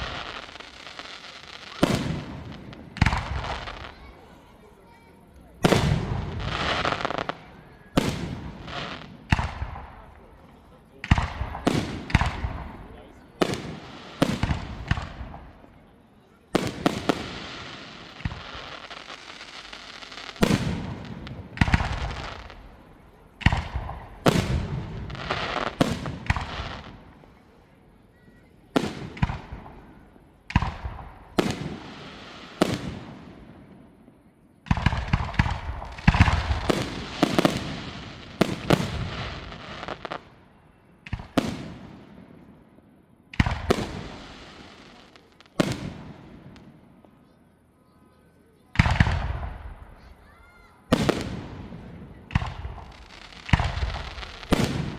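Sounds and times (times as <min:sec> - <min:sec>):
fireworks bursting with echoing bangs: 0:00.0 - 0:47.7, 0:48.6 - 0:54.9.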